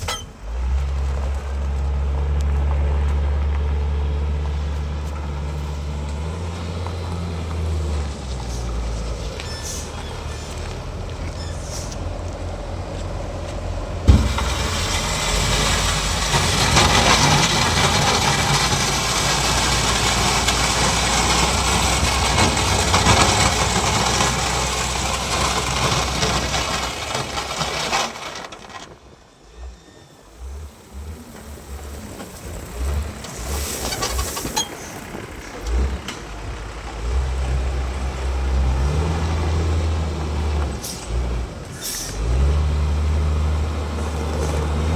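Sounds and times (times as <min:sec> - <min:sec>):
heavy vehicle engine running: 0:00.0 - 0:44.9
loud rough engine noise: 0:00.0 - 0:44.9.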